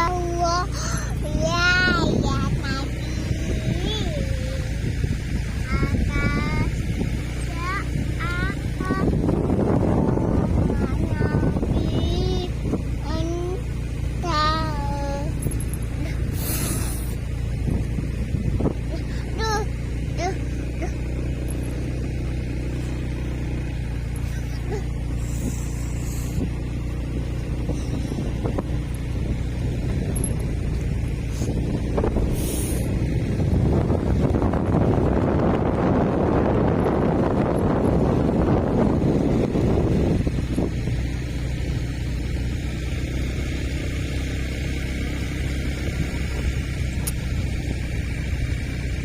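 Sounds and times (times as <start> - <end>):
motor engine running: 0.0 - 49.0.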